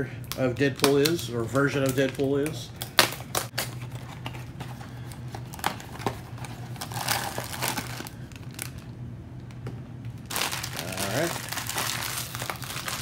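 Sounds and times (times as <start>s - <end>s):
plastic wrapper crinkling: 0.3s - 8.9s, 10.2s - 13.0s.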